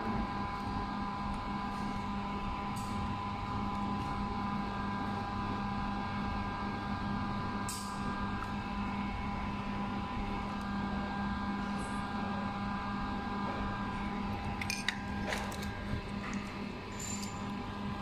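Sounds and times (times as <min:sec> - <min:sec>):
mechanical hum with whining tones: 0:00.0 - 0:18.0.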